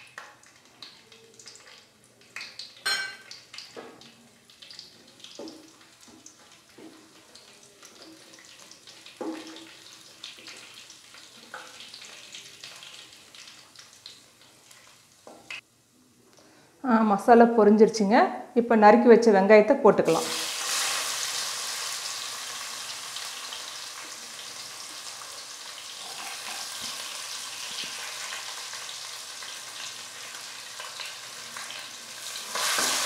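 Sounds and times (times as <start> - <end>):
spices sizzling in hot oil: 0.0 - 15.7, 20.0 - 33.0.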